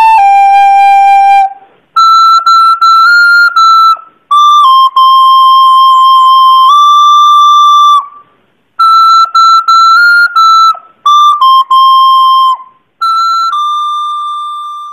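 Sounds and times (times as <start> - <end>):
recorder playing a melody: 0.0 - 14.9.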